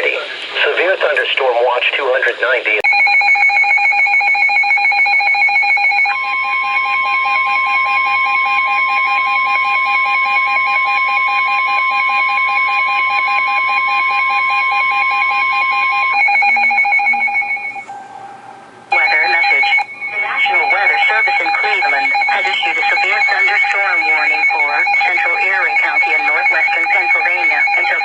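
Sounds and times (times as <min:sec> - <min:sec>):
fast two-pitch beeping alarm: 0:02.8 - 0:18.2, 0:18.9 - 0:28.0
steady alarm tone: 0:02.8 - 0:28.0.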